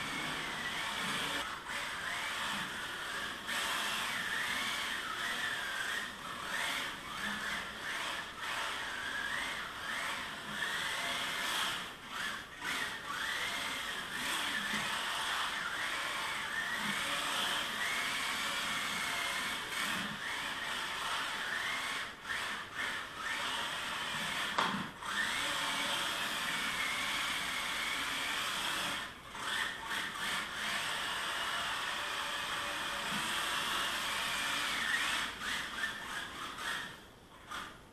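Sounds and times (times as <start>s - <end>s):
toy car electric motor whining: 0.0s - 37.8s.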